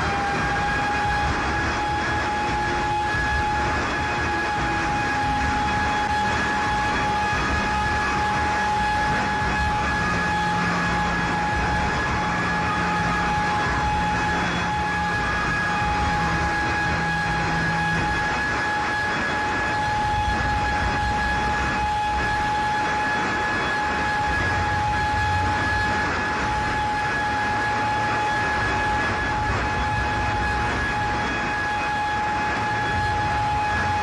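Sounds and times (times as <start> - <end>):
continuous high alarm tone: 0.0 - 34.0
loud industrial din: 0.0 - 34.0.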